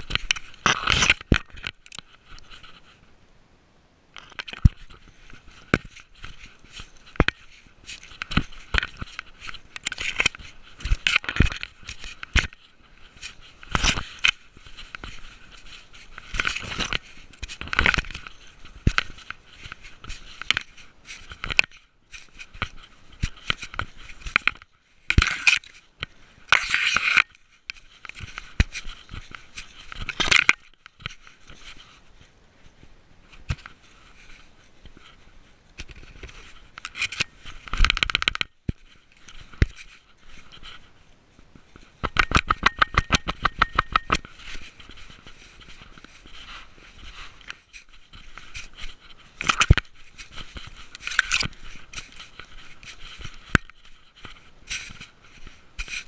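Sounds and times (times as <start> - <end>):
dry leaves and twigs crunching: 0.0 - 3.0, 4.2 - 56.0.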